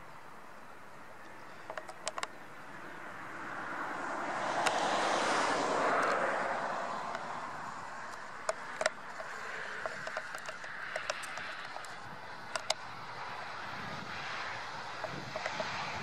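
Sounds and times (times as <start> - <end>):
jet engines rushing: 2.0 - 16.0.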